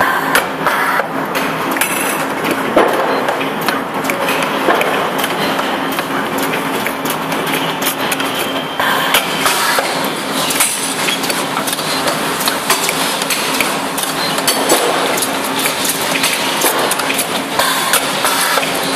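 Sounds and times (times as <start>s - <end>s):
steady machine hum: 0.0s - 18.9s
machine clanks and knocks: 1.3s - 8.6s, 9.2s - 18.9s.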